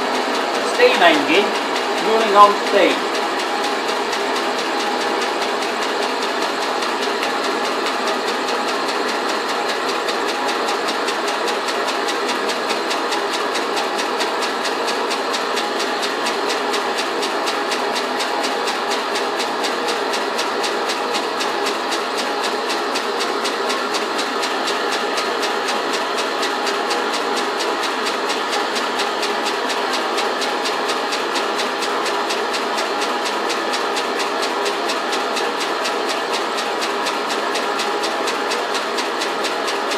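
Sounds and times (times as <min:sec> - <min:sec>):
small steam engine clattering: 0:00.0 - 0:39.9.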